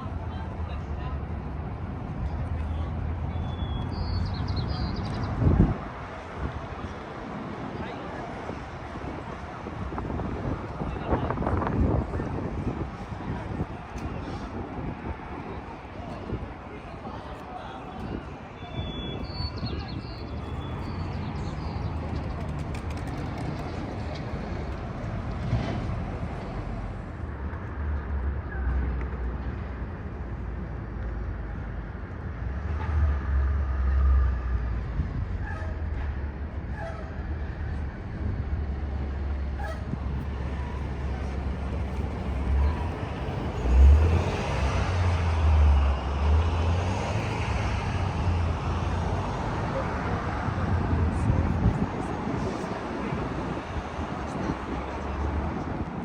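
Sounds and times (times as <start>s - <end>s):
wind rumble: 5.2s - 17.2s, 18.0s - 56.0s.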